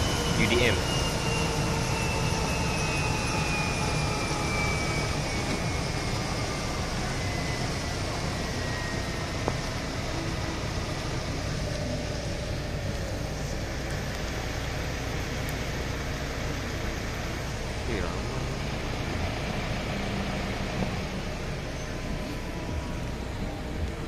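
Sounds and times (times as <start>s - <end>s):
helicopter rumble and rushing: 0.0s - 24.0s.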